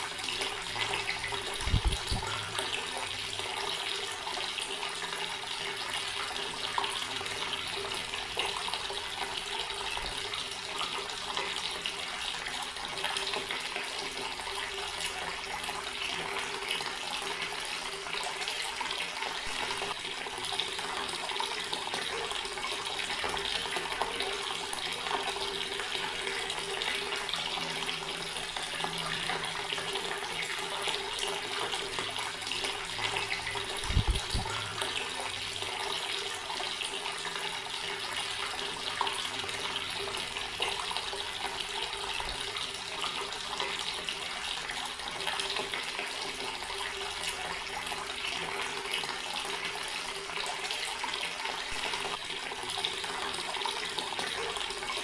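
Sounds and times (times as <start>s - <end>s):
tap water running: 0.0s - 55.0s.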